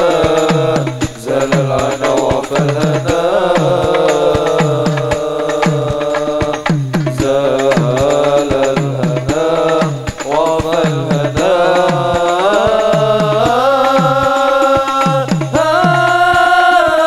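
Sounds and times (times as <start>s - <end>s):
steady drum beat: 0.0s - 17.0s.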